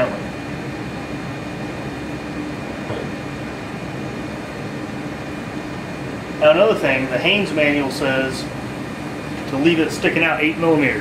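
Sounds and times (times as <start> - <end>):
ventilation fan humming: 0.0 - 11.0.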